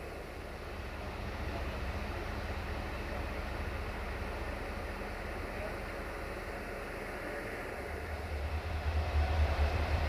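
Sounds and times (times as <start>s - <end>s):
diesel locomotive engine rumble: 0.0s - 10.0s.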